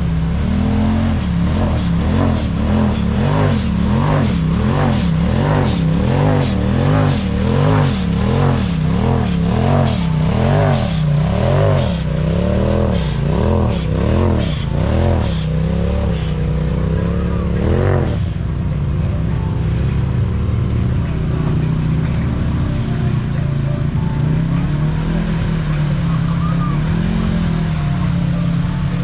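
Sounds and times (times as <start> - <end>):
utility vehicle engine revving: 0.0 - 29.0.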